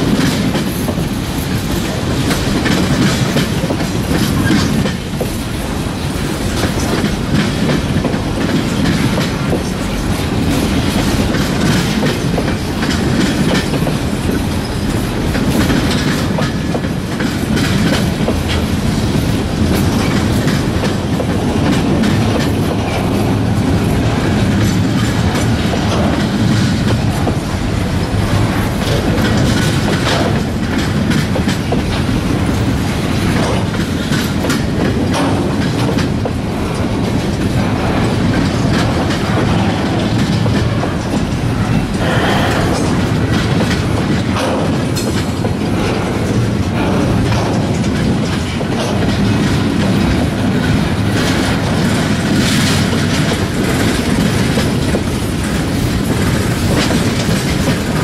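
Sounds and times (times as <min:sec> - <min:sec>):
train wheel rumble: 0:00.0 - 0:58.0
wheels clacking over rail joints: 0:00.0 - 0:58.0.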